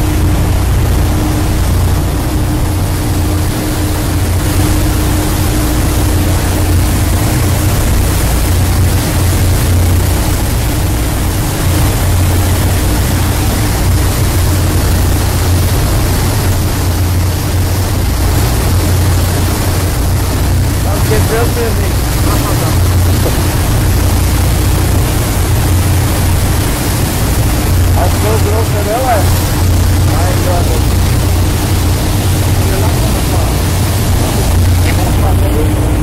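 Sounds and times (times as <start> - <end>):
rushing wake water: 0.0 - 36.0
ship engines low rumble: 0.0 - 36.0
steady hum: 0.0 - 36.0.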